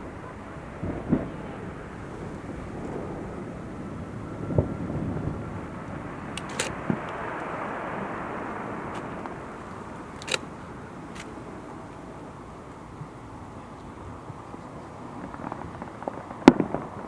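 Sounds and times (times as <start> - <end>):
firework sharp cracks: 0.0 - 12.4, 14.8 - 17.0
steady background rumble: 0.0 - 17.0.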